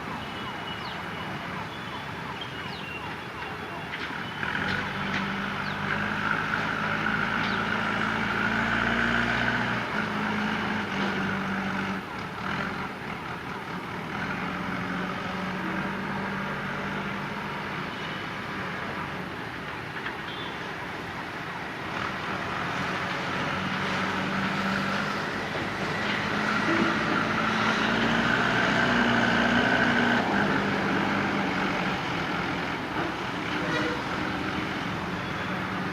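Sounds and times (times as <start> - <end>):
diesel locomotive engine drone: 0.0 - 35.9.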